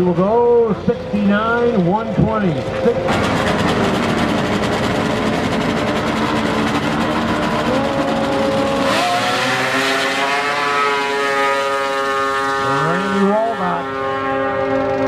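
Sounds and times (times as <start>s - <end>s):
snowmobile engine revving: 0.8s - 15.0s.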